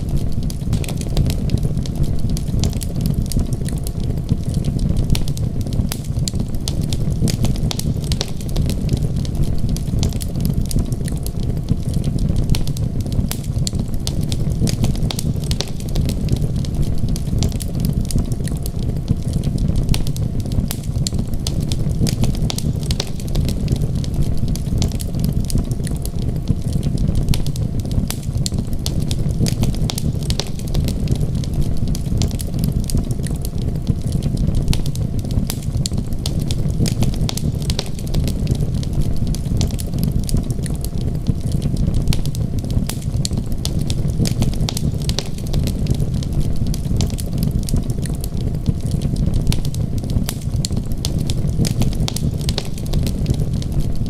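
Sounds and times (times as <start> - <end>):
fire popping: 0.0 - 54.0
low fire rumble: 0.0 - 54.0
wood fire crackling: 0.0 - 54.0.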